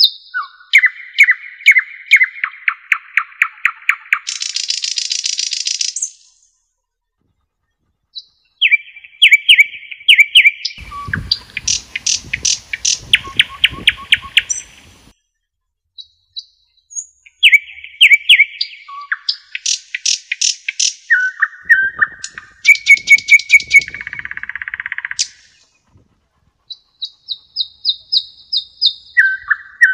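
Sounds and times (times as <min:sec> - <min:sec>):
nightingale singing: 0:00.0 - 0:06.5, 0:08.0 - 0:15.2, 0:16.0 - 0:25.9, 0:26.6 - 0:29.9.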